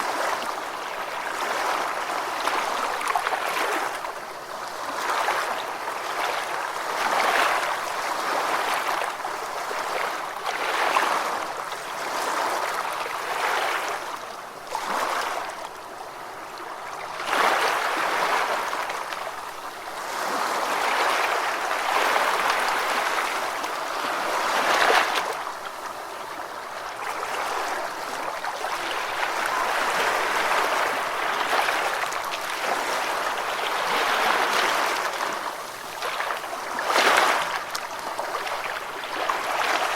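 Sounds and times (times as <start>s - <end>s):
gentle ocean waves washing ashore: 0.0s - 39.9s.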